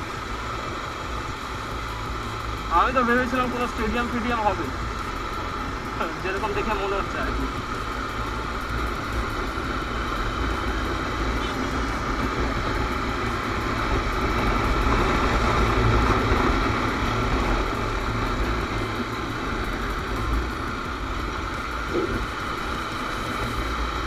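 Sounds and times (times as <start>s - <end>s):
motorcycle engine hum: 0.0s - 24.0s
road noise: 0.0s - 24.0s
wind rush on microphone: 0.0s - 24.0s.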